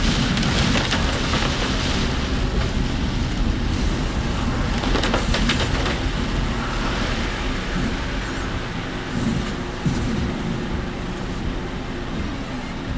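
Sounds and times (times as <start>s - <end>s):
rain hitting car: 0.0s - 12.9s
road and tyre noise: 0.0s - 12.9s.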